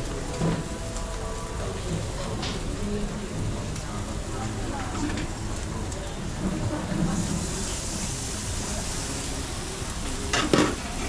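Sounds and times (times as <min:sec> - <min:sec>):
chicken sizzling on grill: 0:00.0 - 0:11.0.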